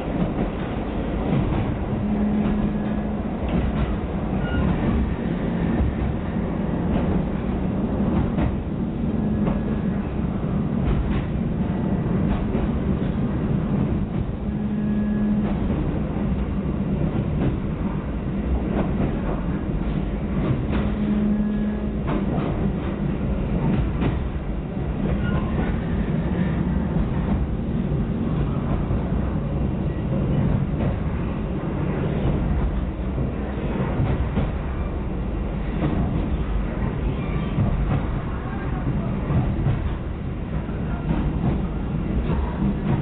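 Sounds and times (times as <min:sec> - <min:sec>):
wheels rumbling on rails: 0:00.0 - 0:43.0.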